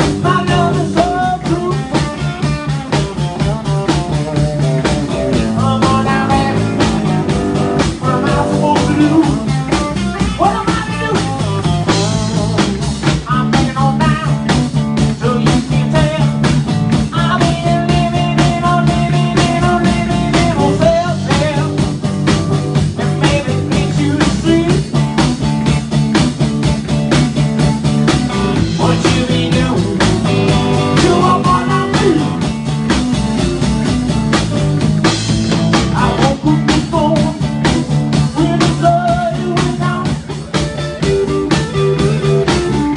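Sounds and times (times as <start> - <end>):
drum kit: 0.0 - 42.9
electric bass: 0.0 - 42.9
electric guitar: 0.0 - 42.9.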